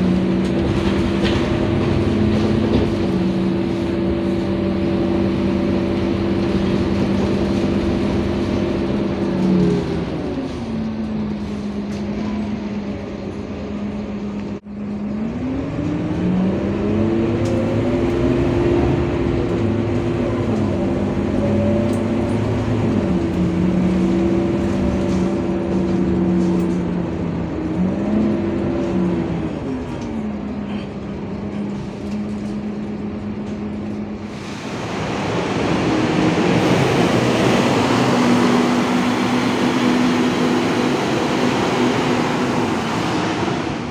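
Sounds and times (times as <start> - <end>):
bus engine driving off outside: 0.0 - 43.9
bus engine from inside cabin: 0.0 - 43.9.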